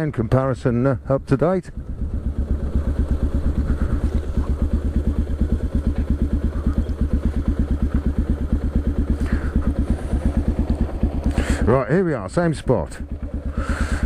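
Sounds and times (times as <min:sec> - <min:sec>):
motorcycle engine thumping: 0:01.1 - 0:11.7, 0:12.8 - 0:14.0.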